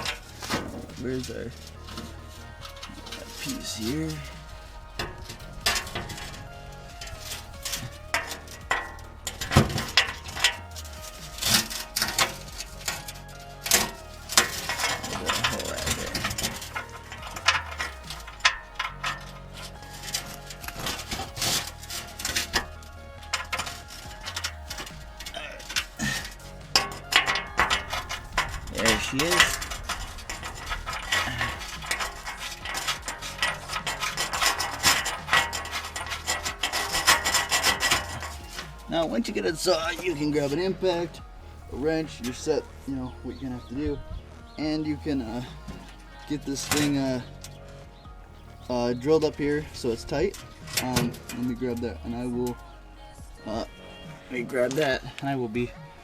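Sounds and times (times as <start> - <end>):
metal tools clinking: 0.0 - 56.0.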